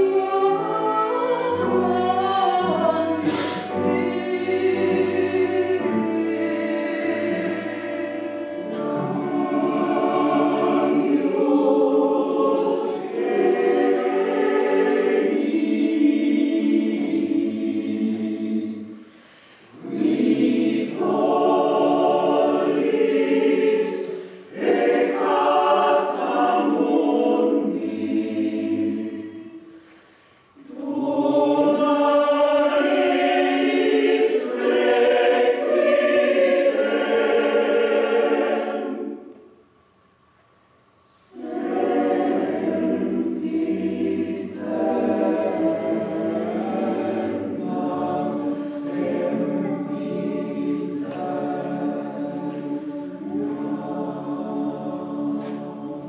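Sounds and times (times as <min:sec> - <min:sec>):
mixed choir singing unaccompanied: 0:00.0 - 0:30.0, 0:30.6 - 0:39.6, 0:40.9 - 0:56.0.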